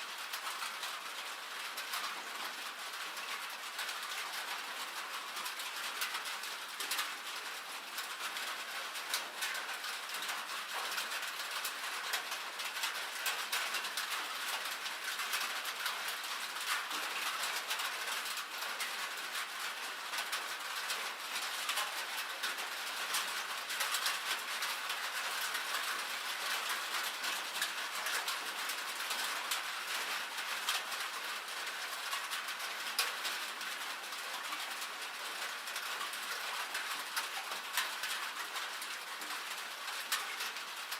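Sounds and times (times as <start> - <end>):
rain and hail on a metal roof: 0.0 - 40.9.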